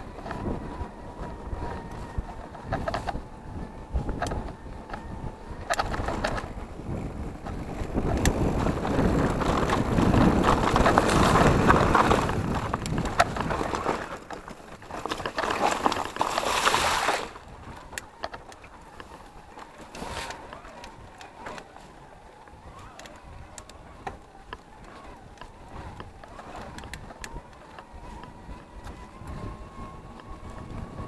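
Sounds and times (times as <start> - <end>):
bike knocking and rattling: 0.0 - 31.0
rushing tyre and wind noise: 0.0 - 31.0.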